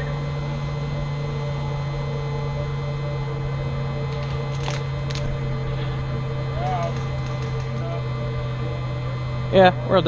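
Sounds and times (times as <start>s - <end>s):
faint steady higher tones: 0.0s - 10.0s
steady low hum: 0.0s - 10.0s.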